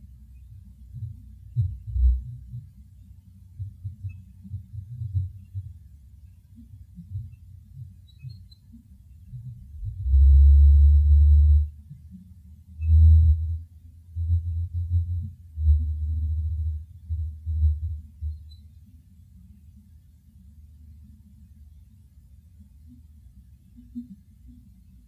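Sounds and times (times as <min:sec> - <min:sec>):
low buzzes: 0:00.0 - 0:25.0.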